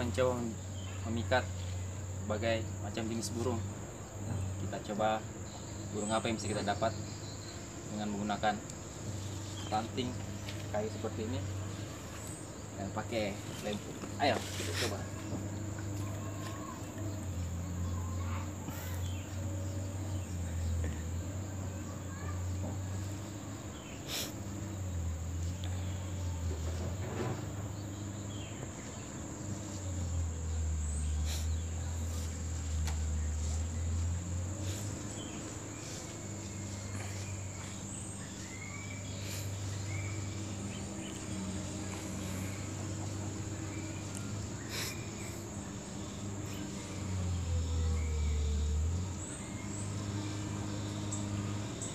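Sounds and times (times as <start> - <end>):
constant low hum: 0.0 - 51.9
faint chirps: 0.0 - 51.9
high-pitched insect trill: 0.0 - 51.9.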